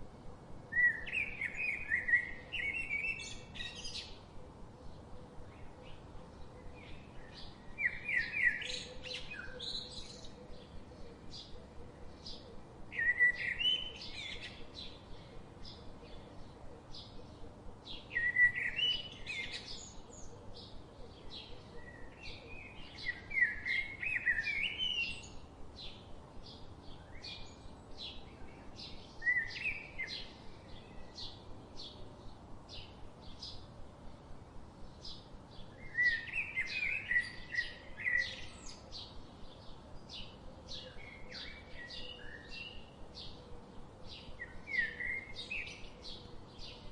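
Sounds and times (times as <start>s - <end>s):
bird warbling song: 0.7s - 33.7s, 34.8s - 46.9s.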